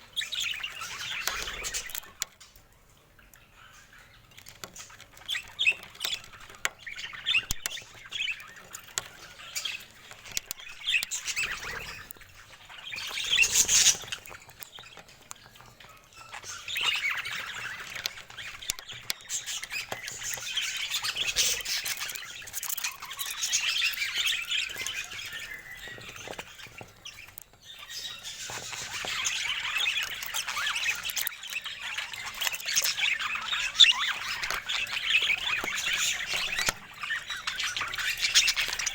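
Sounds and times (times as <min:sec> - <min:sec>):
budgerigars chattering: 0:00.0 - 0:02.2, 0:03.3 - 0:38.9.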